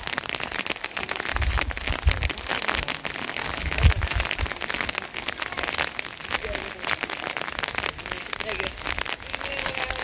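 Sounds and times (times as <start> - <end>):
rain drops falling: 0.0 - 10.0.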